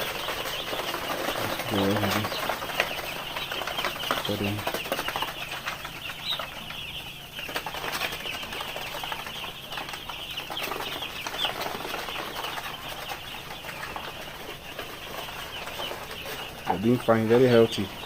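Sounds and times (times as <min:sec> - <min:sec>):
chicks cheeping: 0:00.0 - 0:18.0.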